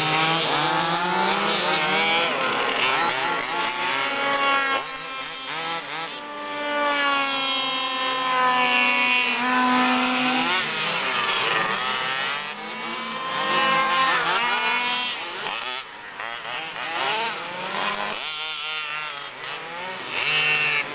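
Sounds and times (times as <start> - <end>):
small two-stroke engines revving: 0.0 - 20.9.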